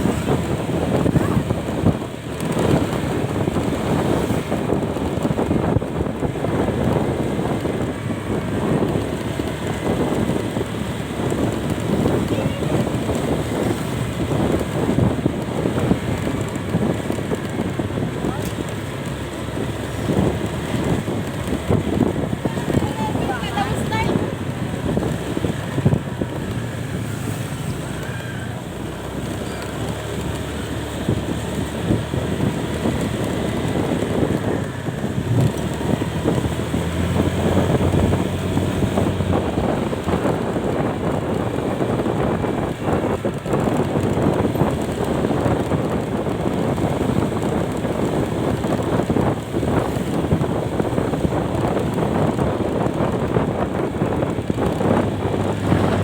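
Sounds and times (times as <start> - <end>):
vehicle road and engine noise: 0.0 - 56.0
wind buffeting microphone: 0.0 - 56.0.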